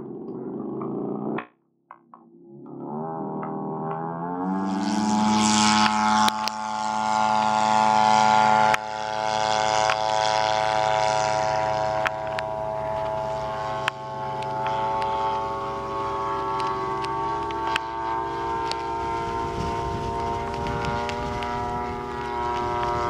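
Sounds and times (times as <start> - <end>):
model plane engine at full throttle: 0.0 - 1.4, 4.4 - 23.0.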